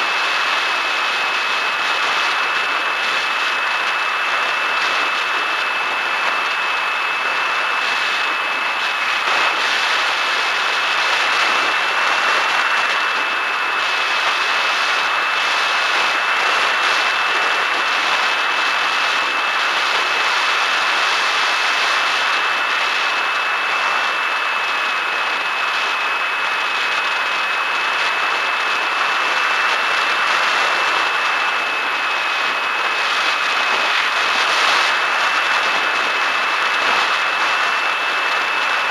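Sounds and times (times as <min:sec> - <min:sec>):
electric motor propeller whine: 0:00.0 - 0:38.9.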